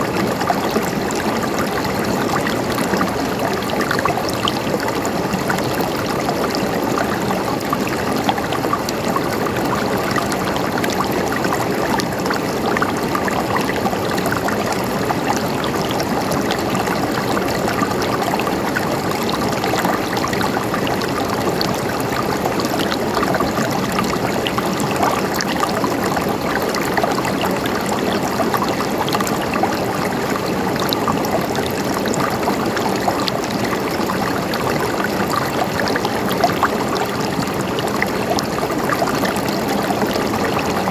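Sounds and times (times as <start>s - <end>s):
stream gurgling over rocks: 0.0s - 40.9s.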